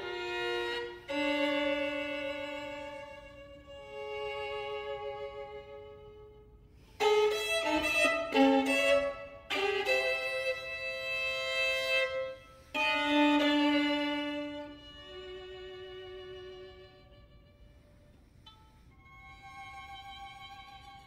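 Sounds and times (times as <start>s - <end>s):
solo violin playing: 0.0s - 21.0s.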